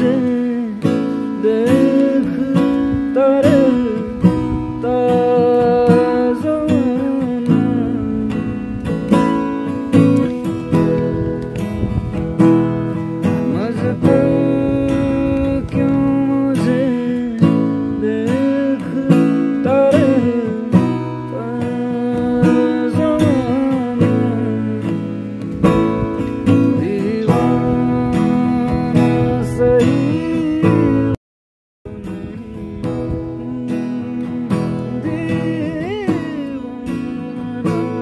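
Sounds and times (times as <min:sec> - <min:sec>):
man singing: 0:00.0 - 0:11.7, 0:13.2 - 0:25.4, 0:26.4 - 0:31.2, 0:31.9 - 0:38.0
acoustic guitar strummed: 0:00.0 - 0:31.2, 0:31.9 - 0:38.0.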